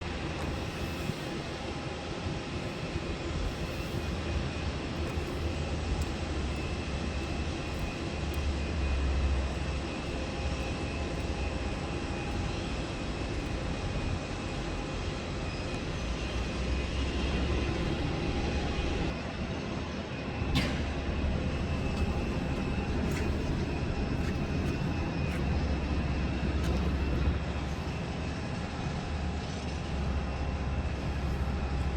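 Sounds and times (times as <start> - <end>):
airliner engines rumbling: 0.0 - 31.9.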